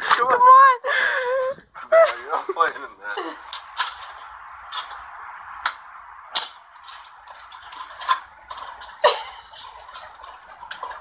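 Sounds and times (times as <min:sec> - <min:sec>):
steady hiss: 0:01.6 - 0:11.0.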